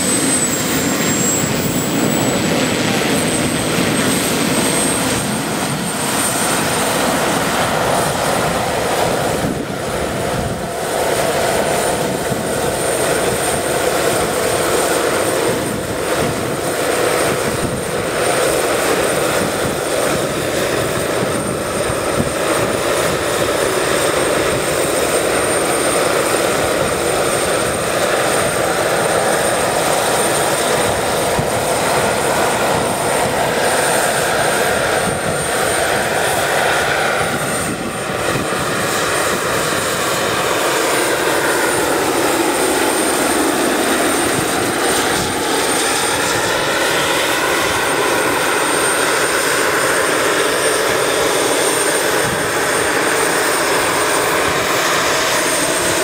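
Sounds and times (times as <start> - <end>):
helicopter rotor noise: 0.0 - 56.0
high turbine whine: 0.0 - 56.0.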